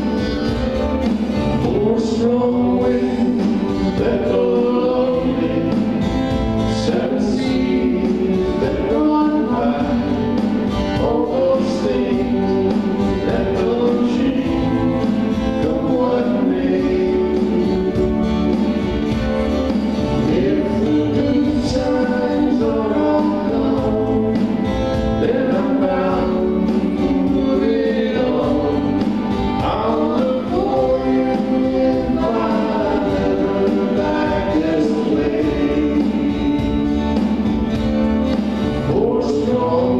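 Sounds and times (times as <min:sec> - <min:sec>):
small band playing folk music: 0:00.0 - 0:39.9
voices singing: 0:00.0 - 0:39.9.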